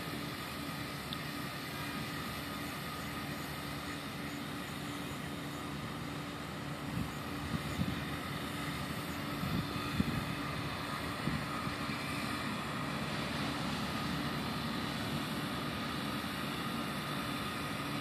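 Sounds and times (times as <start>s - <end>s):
model boat motor whine: 0.0s - 18.0s.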